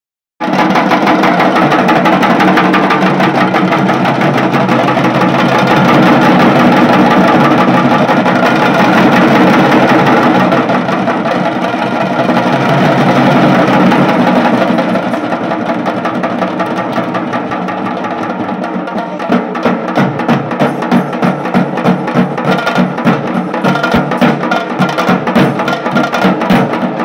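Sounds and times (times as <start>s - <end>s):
drum band playing: 0.4s - 27.0s
tasha drum rapid rolls: 0.4s - 27.0s.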